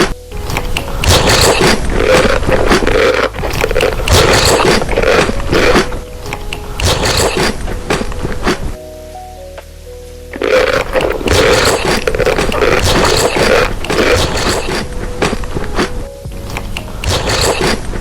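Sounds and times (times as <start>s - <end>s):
noodles being eaten: 0.0s - 8.8s, 10.4s - 18.0s.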